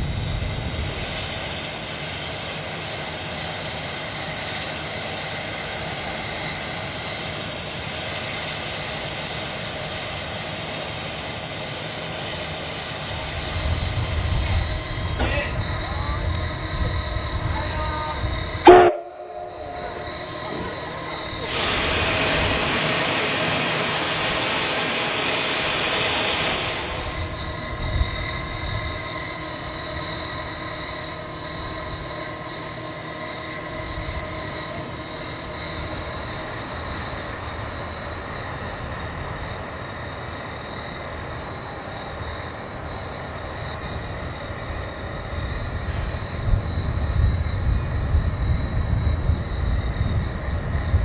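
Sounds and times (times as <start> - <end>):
steady high whine: 0.0 - 51.0
steam locomotive hissing: 0.0 - 51.0.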